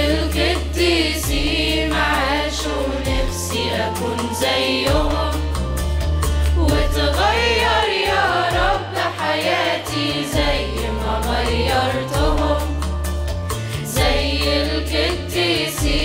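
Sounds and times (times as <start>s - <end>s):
youth choir singing: 0.0s - 5.9s, 6.5s - 13.0s, 13.8s - 16.0s
amplified backing music: 0.0s - 16.0s.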